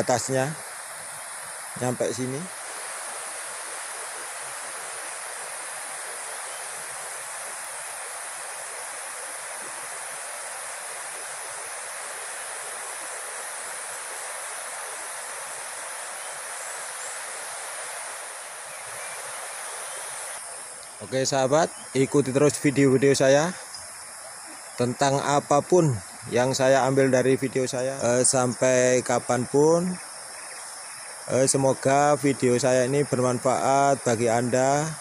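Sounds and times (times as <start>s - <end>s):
constant rushing hiss: 0.0s - 35.0s
high insect buzz: 0.0s - 35.0s.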